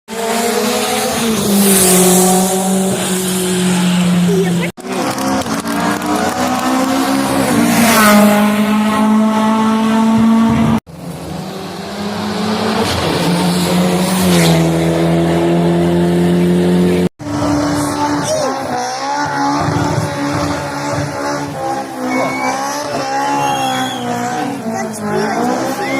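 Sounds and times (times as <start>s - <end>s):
rally car engines revving high: 0.1s - 25.9s.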